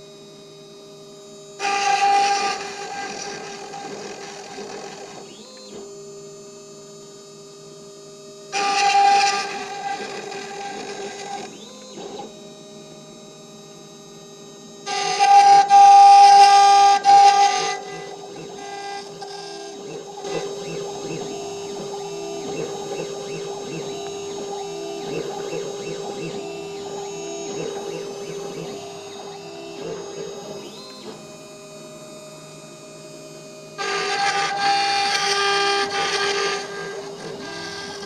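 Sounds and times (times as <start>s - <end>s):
milling machine spindle whining: 1.6s - 5.9s, 8.5s - 13.0s, 13.7s - 38.0s.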